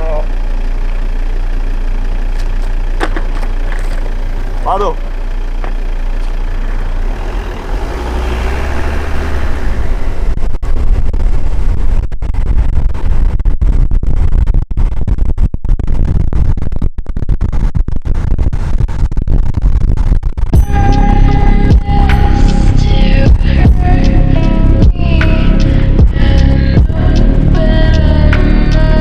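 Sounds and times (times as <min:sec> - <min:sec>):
vehicle rumble: 0:00.0 - 0:29.0.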